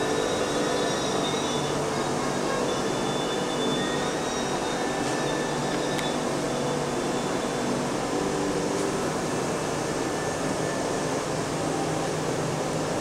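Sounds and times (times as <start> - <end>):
ventilation hum and hiss: 0.0 - 13.0.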